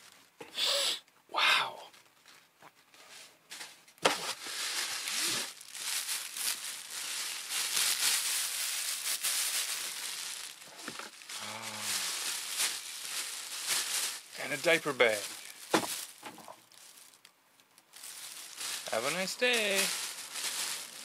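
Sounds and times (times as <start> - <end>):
packaging crinkling and rustling: 1.9 - 21.0.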